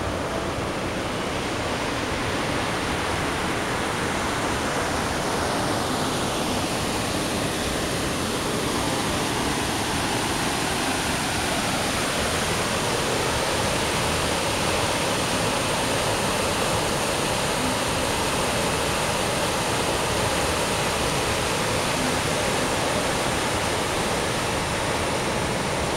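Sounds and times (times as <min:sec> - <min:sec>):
river rapids rushing over rocks: 0:00.0 - 0:25.9.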